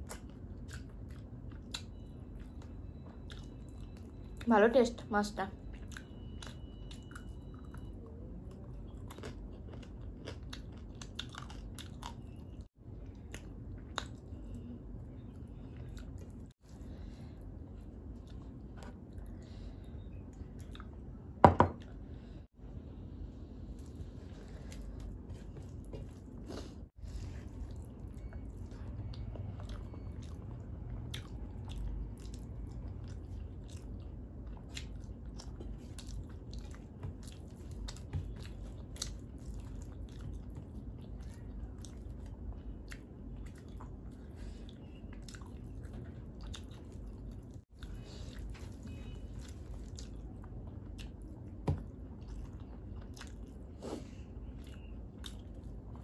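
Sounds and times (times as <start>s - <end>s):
person chewing: 0.0s - 4.4s, 5.7s - 17.2s, 20.5s - 21.2s, 23.8s - 56.0s.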